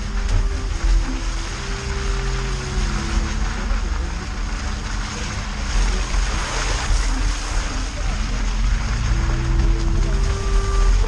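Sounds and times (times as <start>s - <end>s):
engine running at low speed: 0.0s - 11.0s
tyres rushing through mud: 0.0s - 11.0s.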